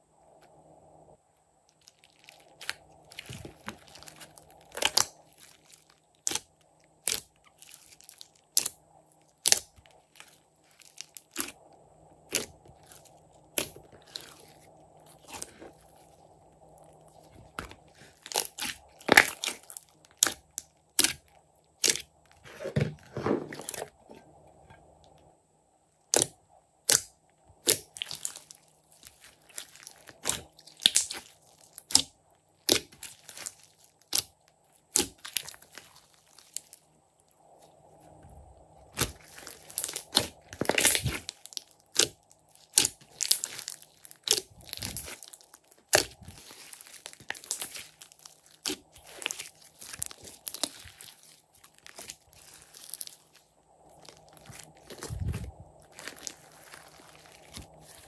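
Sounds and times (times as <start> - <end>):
slime popping and crackling: 1.8 - 8.8, 9.4 - 11.6, 12.3 - 16.1, 17.1 - 22.1, 26.1 - 36.8, 38.9 - 58.0.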